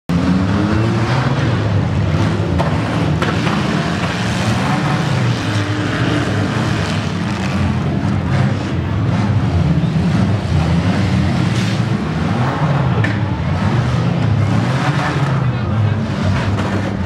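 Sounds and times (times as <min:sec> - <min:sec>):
car engines revving: 0:00.1 - 0:17.0
cars colliding: 0:01.0 - 0:17.0.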